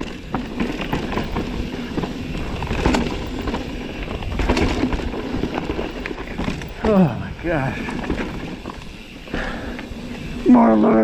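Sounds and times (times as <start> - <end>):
bike rattling: 0.0 - 11.0
tyres crunching on dirt: 0.0 - 11.0.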